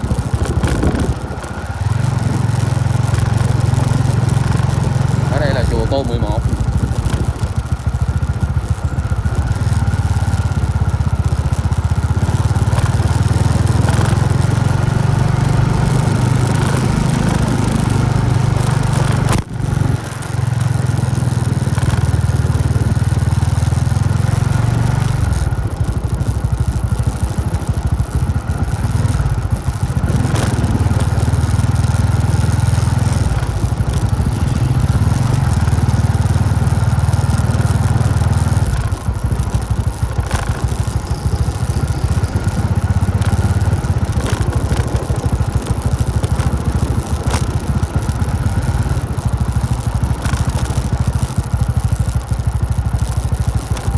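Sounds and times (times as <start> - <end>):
motorbike engine running: 0.0 - 53.9.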